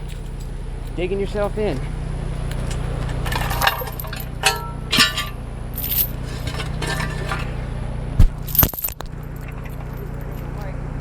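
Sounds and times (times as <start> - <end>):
light metallic clinking: 0.0 - 7.8, 8.4 - 10.7
low engine hum: 0.0 - 11.0.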